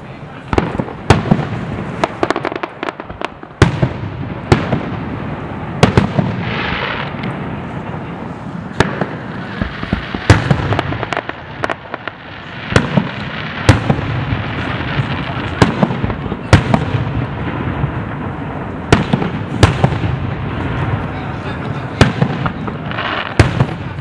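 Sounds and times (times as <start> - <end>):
fireworks bursting with bangs: 0.0 - 24.0
fireworks rumble: 0.0 - 24.0
hissing crackle: 0.0 - 24.0.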